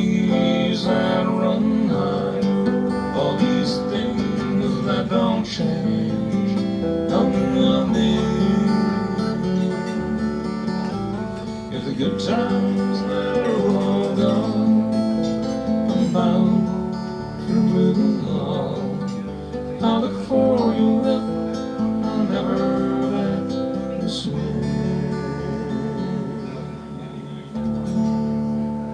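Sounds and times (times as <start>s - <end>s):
man singing: 0.0s - 10.8s, 11.6s - 28.3s
acoustic guitar strumming: 0.0s - 28.9s.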